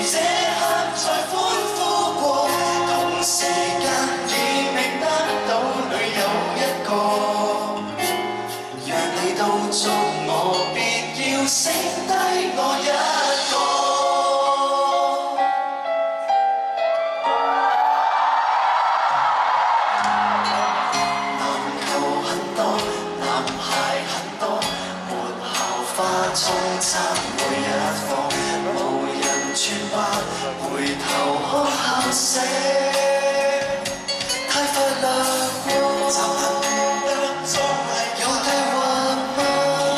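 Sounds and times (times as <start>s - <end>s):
live band playing pop song: 0.0s - 15.7s, 19.9s - 39.9s
person singing: 0.0s - 16.3s, 20.0s - 39.9s.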